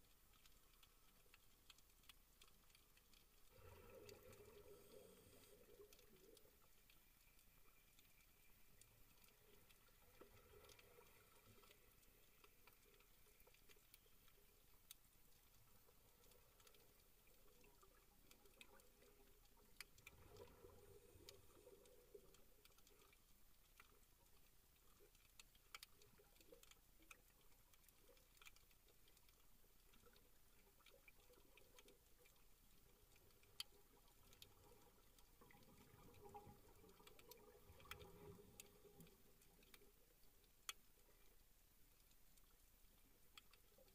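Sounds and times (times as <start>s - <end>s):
sharp clicks and crackles: 0.0s - 43.9s
soft underwater hiss: 0.0s - 43.9s.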